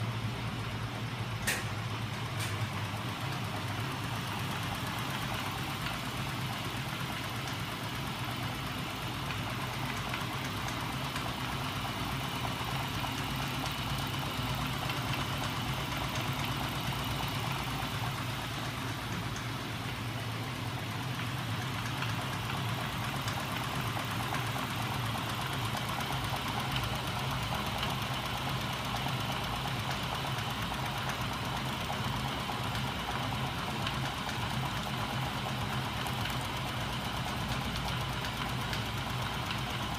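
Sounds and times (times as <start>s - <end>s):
mechanical hum with fast clatter: 0.0s - 39.9s.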